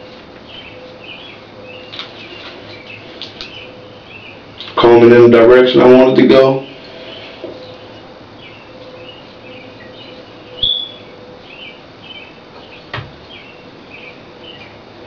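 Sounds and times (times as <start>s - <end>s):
small birds chirping: 0.4s - 5.2s, 5.8s - 14.9s.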